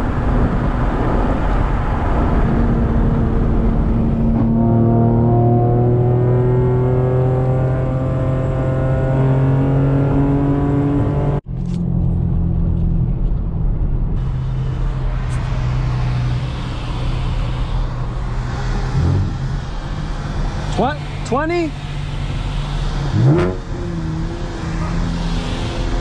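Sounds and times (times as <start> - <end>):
car engine droning in cabin: 0.0 - 26.0
road noise: 0.0 - 26.0.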